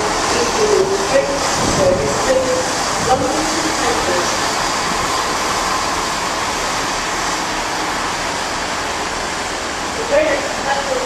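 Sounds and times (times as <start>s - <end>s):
train running past: 0.0s - 11.0s.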